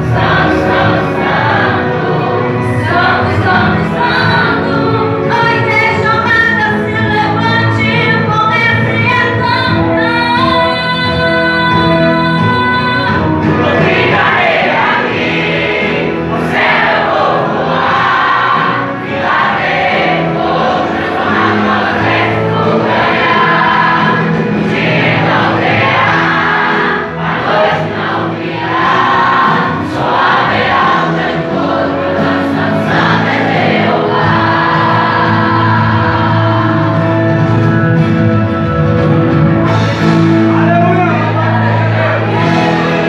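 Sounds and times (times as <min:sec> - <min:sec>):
choir singing gospel: 0:00.0 - 0:38.7, 0:39.7 - 0:43.0.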